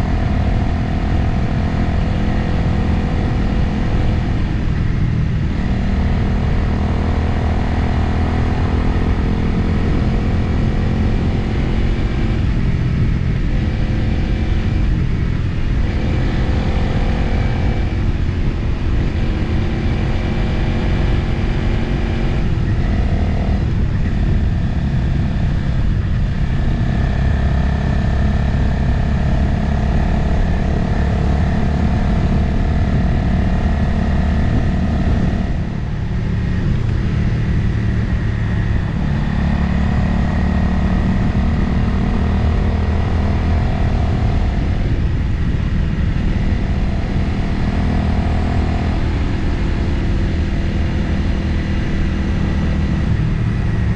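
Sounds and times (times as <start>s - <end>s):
motorcycle engine running: 0.0s - 53.9s
wind noise: 0.0s - 53.9s.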